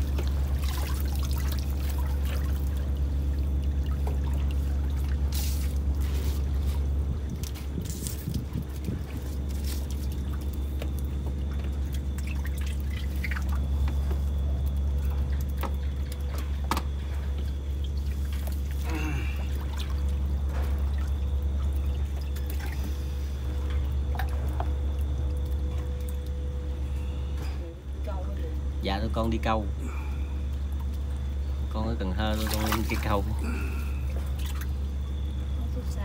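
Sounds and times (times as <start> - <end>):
water dripping and trickling: 0.0 - 27.0, 28.0 - 36.0
steady low hum: 0.0 - 36.0.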